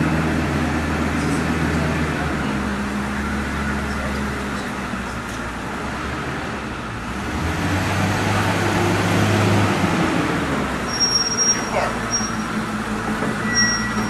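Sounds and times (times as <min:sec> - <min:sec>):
truck engine running under load: 0:00.0 - 0:14.0.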